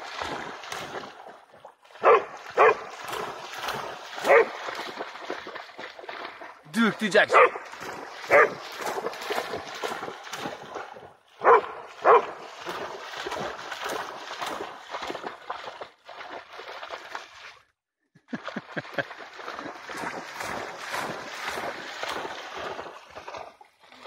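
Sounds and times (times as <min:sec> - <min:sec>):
dog splashing through water: 0:00.0 - 0:17.7, 0:18.3 - 0:24.0.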